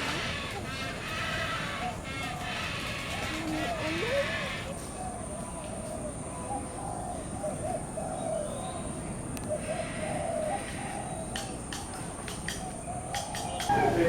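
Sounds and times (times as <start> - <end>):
birds cooing: 0.0 - 5.3, 6.1 - 11.6, 12.6 - 14.0.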